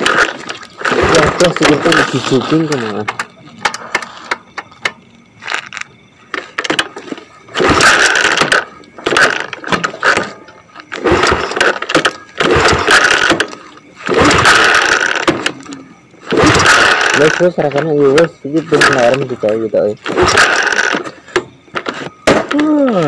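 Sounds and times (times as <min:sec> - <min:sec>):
motorcycle engine revving: 0:00.0 - 0:03.9, 0:06.5 - 0:22.0.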